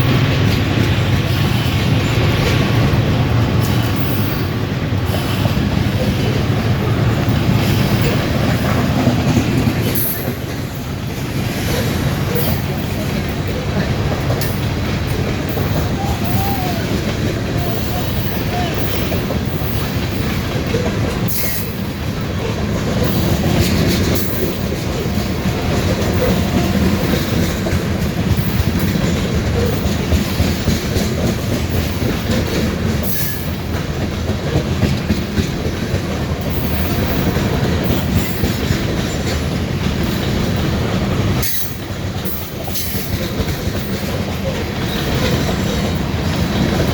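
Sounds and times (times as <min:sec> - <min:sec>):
freight train rumbling past: 0:00.0 - 0:46.9
wheels clicking over rail joints: 0:00.0 - 0:46.9.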